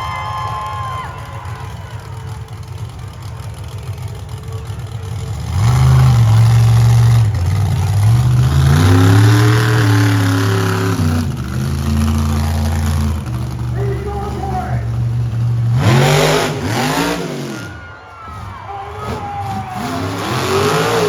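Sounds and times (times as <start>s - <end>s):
truck engine idling and revving: 0.0s - 21.0s.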